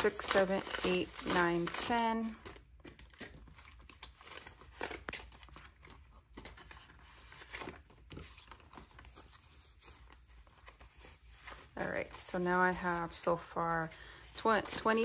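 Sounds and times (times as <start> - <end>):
banknotes rustling: 0.0 - 15.0
paper envelope crinkling: 0.0 - 15.0.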